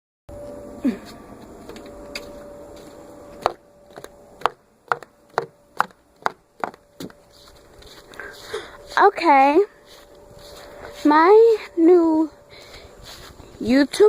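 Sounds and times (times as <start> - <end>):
faint steady hum: 0.3 - 14.0.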